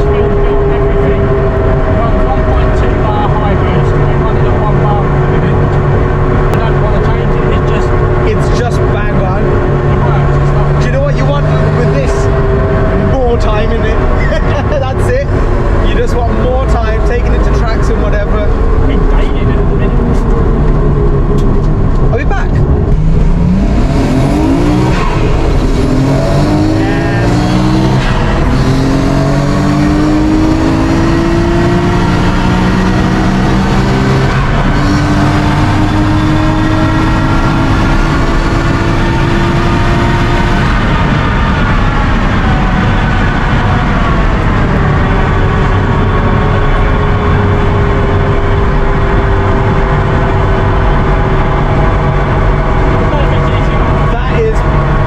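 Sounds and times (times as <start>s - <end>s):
car engine accelerating: 0.0s - 55.0s
road and drivetrain noise: 0.0s - 55.0s.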